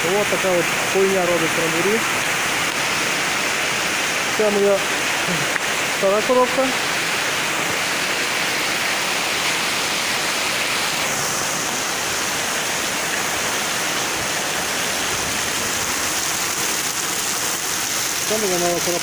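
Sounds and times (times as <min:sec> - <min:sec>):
rain and running water: 0:00.0 - 0:19.0.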